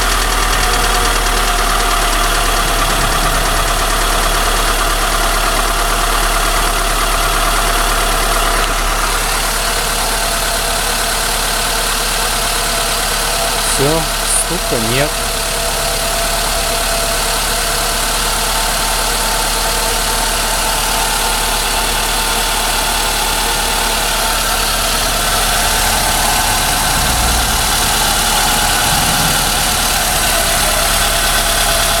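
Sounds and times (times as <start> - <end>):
car engine idling: 0.0 - 18.0, 22.5 - 32.0.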